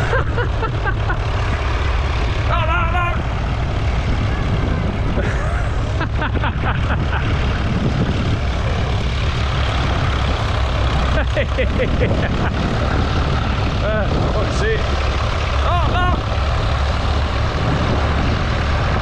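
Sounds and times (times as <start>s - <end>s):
tractor engines under load: 0.0s - 19.0s.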